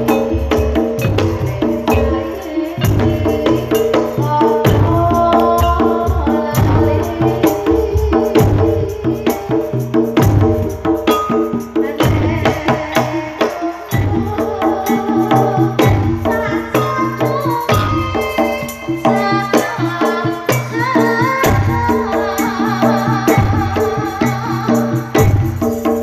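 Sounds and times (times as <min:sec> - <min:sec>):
ringing metallophone notes: 0:00.0 - 0:07.7, 0:10.2 - 0:26.0
hand drum rhythm: 0:00.0 - 0:26.0.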